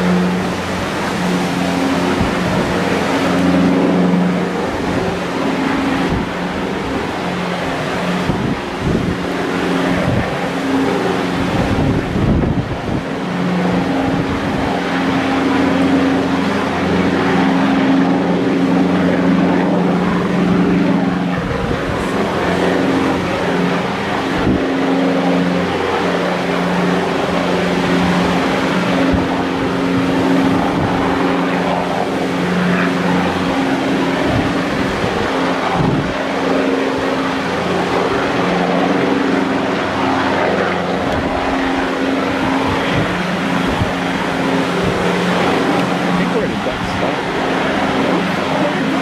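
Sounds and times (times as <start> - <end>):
gale wind buffeting microphone: 0.0 - 49.0
helicopter hovering: 0.0 - 49.0.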